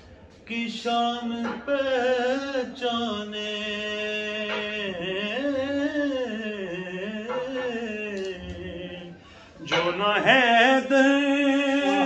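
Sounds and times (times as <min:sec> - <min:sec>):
man singing unaccompanied: 0:00.4 - 0:12.0.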